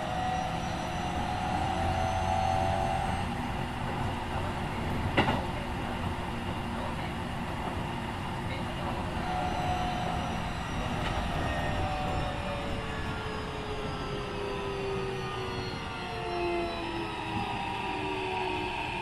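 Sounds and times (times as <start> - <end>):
train rail and wheel rumble: 0.0 - 19.0.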